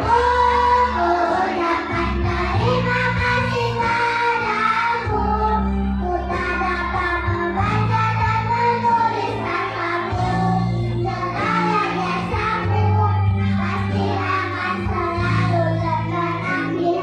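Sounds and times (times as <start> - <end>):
children's choir singing: 0.0 - 17.0
instrumental accompaniment: 0.0 - 17.0.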